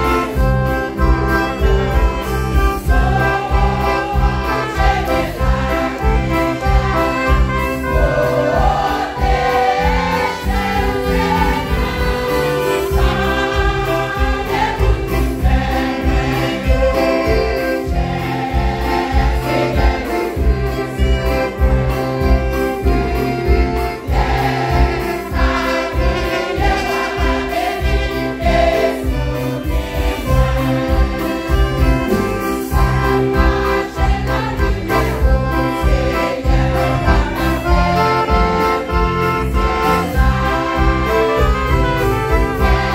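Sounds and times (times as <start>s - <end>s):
accordion: 0.0s - 42.9s
trumpet: 0.0s - 42.9s
women's choir singing a hymn: 0.0s - 42.9s.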